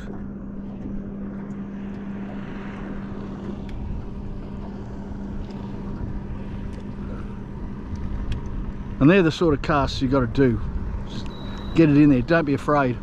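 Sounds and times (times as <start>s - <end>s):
electric trolling motor humming: 0.0s - 13.0s.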